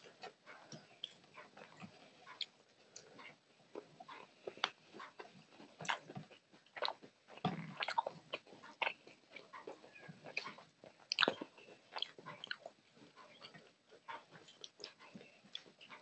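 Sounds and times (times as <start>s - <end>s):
chewing smacks: 0.0s - 16.0s
fingers squishing rice on a plate: 0.0s - 16.0s.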